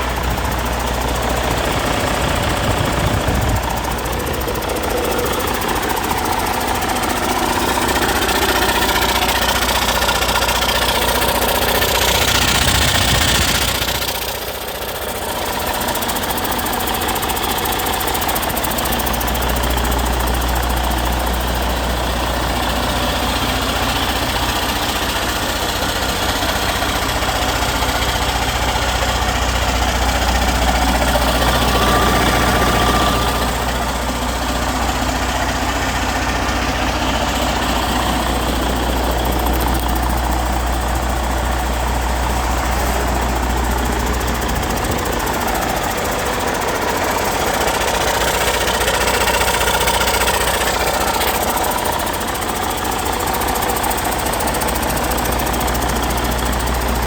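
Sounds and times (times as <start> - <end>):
diesel engine clatter: 0.0 - 57.0.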